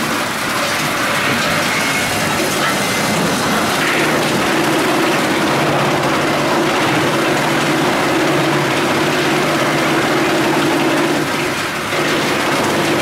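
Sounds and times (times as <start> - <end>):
wood chipper machine hum: 0.0 - 13.0
wood chips rushing down chute: 0.0 - 13.0.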